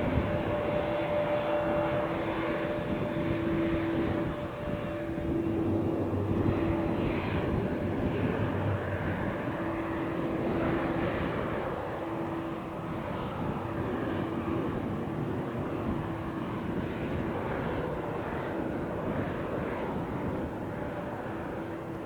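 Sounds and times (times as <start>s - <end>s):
airplane engine noise: 0.0s - 22.0s.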